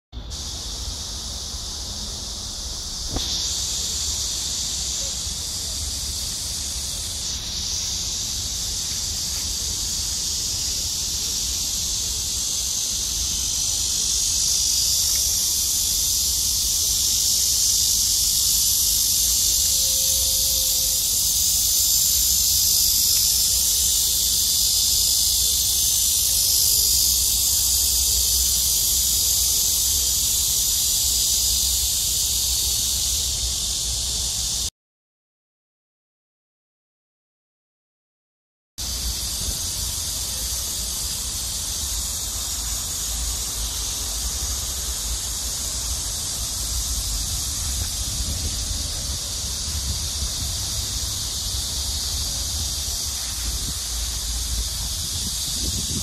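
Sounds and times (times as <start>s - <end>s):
cicadas buzzing: 0.2s - 34.7s, 38.8s - 56.0s.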